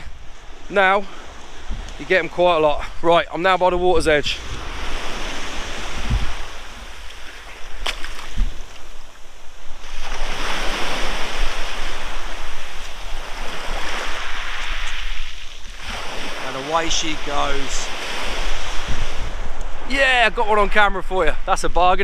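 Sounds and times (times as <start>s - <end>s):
waves washing over shingle: 0.0s - 21.6s.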